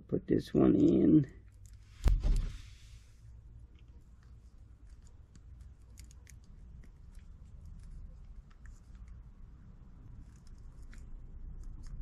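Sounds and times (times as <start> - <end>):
faint low rumble: 0.1 - 12.0.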